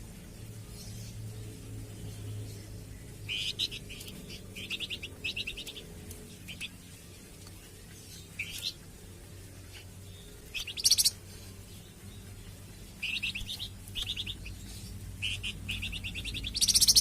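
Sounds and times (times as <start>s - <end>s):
cage bird chirping: 0.0s - 17.0s
low steady hum: 0.0s - 17.0s.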